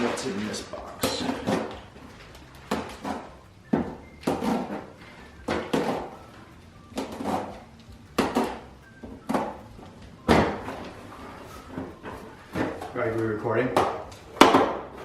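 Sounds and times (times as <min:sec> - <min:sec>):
boxes and parts knocking and clattering: 0:00.0 - 0:06.2, 0:06.9 - 0:11.0, 0:11.7 - 0:13.0, 0:13.7 - 0:15.0.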